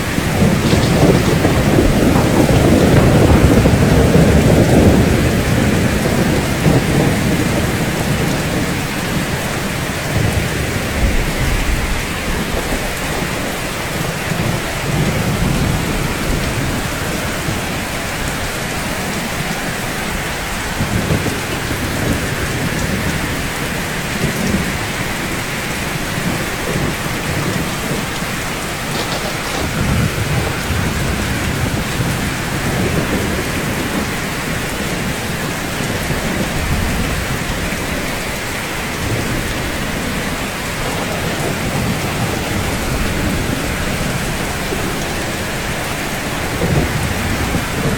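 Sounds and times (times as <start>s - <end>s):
rain on rooftops: 0.0s - 47.9s
rolling thunder: 0.0s - 47.9s.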